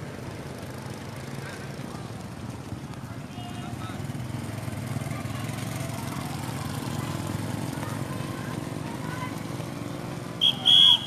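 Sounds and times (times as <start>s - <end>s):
motorcycle passing on wet road: 0.0s - 11.0s.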